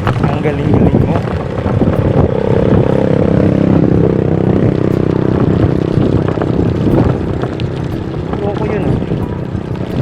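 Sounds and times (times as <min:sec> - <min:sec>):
road rumble and clatter: 0:00.0 - 0:10.0
vehicle engine humming: 0:00.0 - 0:10.0.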